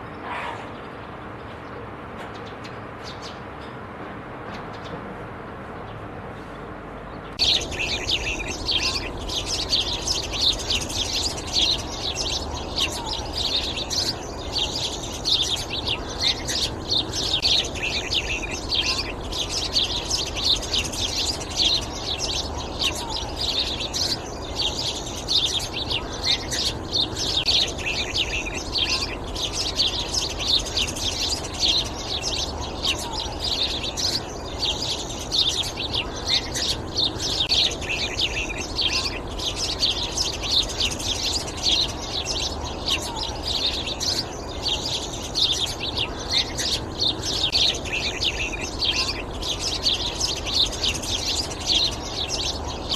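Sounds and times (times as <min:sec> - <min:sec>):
birds chirping rapidly: 0:00.0 - 0:03.8, 0:05.8 - 0:52.9.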